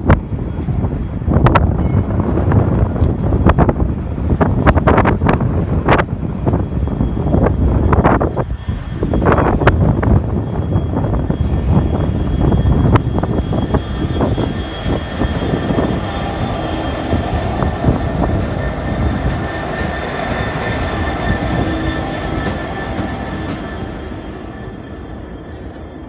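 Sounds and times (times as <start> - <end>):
diesel locomotive engines running: 0.0 - 26.0
steady high whine: 0.0 - 26.0.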